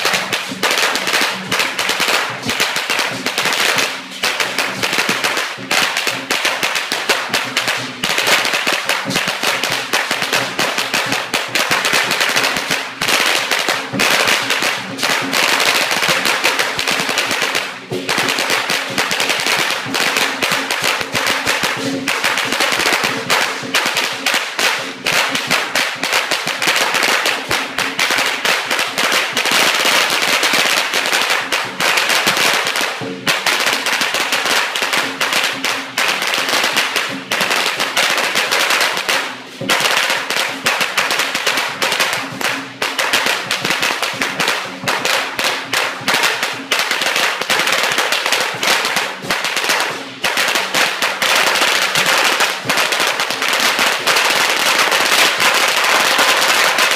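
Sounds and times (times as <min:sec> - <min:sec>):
firecrackers crackling: 0:00.0 - 0:56.9.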